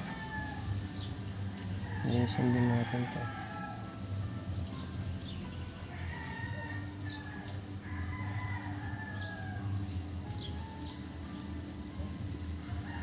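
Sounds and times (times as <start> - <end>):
roosters crowing: 0.0 - 13.0
steady low hum: 0.0 - 13.0.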